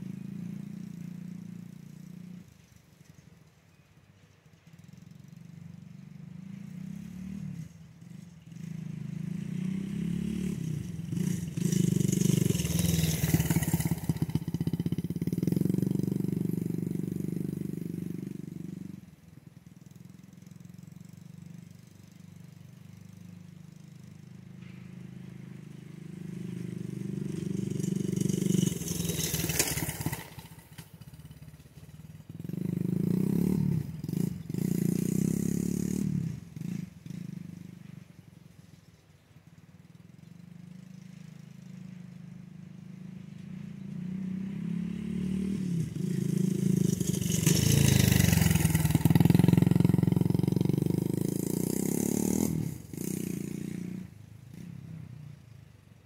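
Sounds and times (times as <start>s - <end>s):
dirt bike engine revving: 4.9s - 19.2s, 20.6s - 38.0s, 40.4s - 55.3s.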